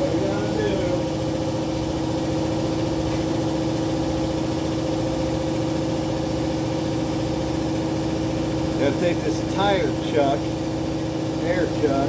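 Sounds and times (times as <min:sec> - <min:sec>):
air compressor running: 0:00.0 - 0:12.0.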